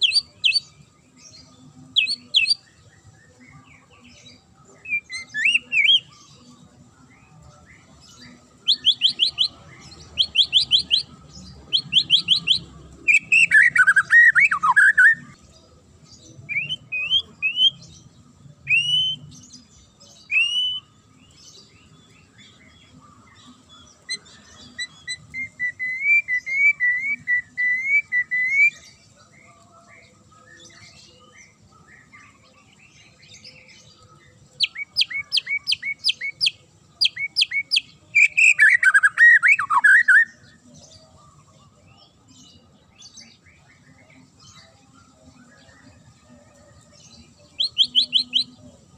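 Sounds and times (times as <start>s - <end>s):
bird singing trills and whistles: 0.0s - 48.9s.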